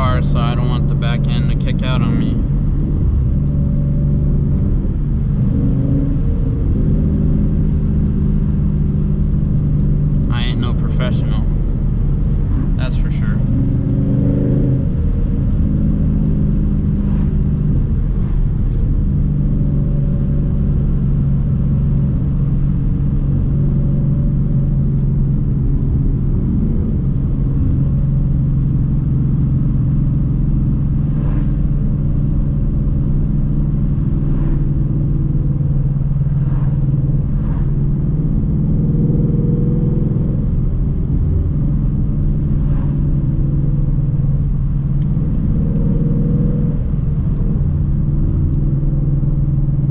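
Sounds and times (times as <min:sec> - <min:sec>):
car engine running: 0:00.0 - 0:49.9
low road rumble: 0:00.0 - 0:49.9.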